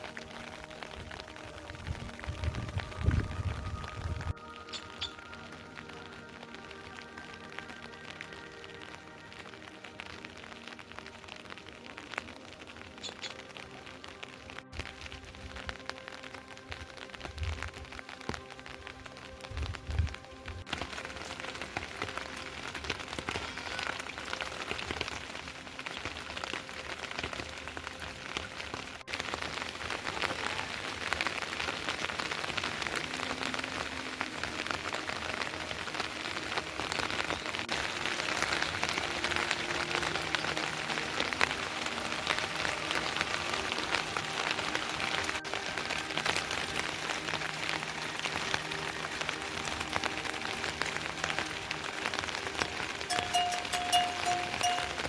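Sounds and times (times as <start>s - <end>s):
rain drops hitting a surface: 0.0s - 55.0s.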